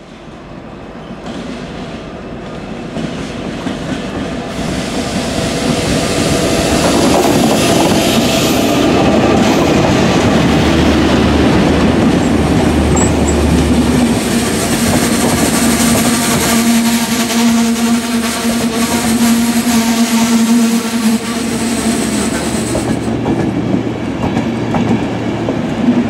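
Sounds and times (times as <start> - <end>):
diesel locomotive passing: 0.0 - 26.0
train coaches clickety-clack: 0.8 - 26.0.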